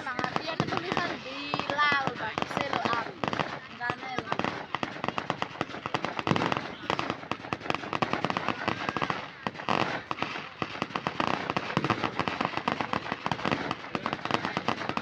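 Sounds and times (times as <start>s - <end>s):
fireworks popping: 0.0s - 15.0s.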